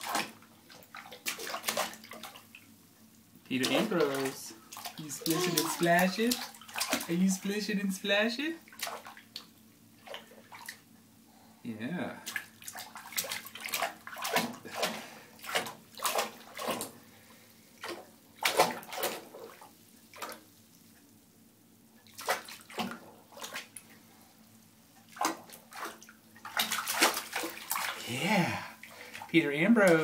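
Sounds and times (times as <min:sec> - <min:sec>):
baby splashing bathwater: 0:00.0 - 0:02.6, 0:03.5 - 0:10.8, 0:12.2 - 0:17.0, 0:17.8 - 0:20.5, 0:22.0 - 0:23.9, 0:25.0 - 0:30.0.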